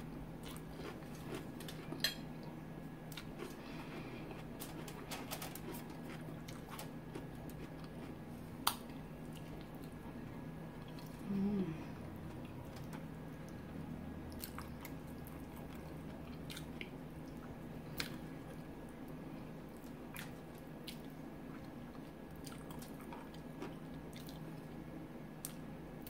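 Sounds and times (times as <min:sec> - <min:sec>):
chewing and wet squishing: 0:00.4 - 0:10.1, 0:12.2 - 0:24.8.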